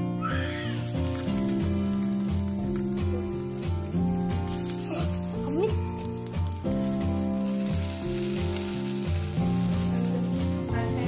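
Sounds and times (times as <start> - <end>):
background music with bass line: 0.0 - 11.0
food frying in hot oil: 0.7 - 11.0.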